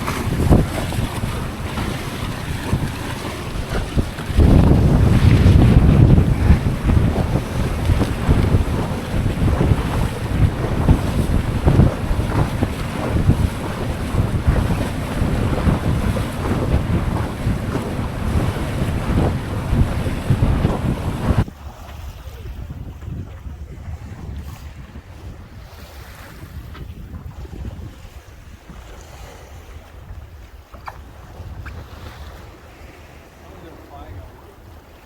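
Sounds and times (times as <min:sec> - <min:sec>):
waves against a yacht: 0:00.0 - 0:35.0
wind buffeting microphone: 0:00.0 - 0:35.0.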